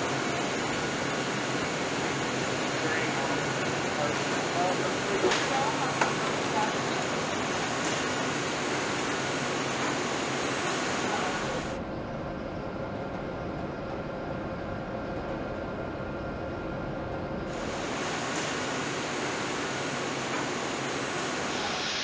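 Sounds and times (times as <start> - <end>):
ventilation and machinery noise: 0.0 - 22.0.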